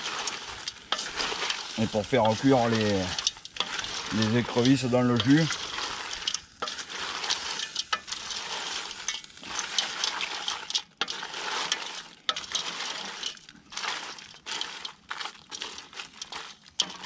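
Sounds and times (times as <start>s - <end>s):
liquid simmering sizzle: 0.0s - 17.0s
shells clattering in pot: 0.0s - 17.0s.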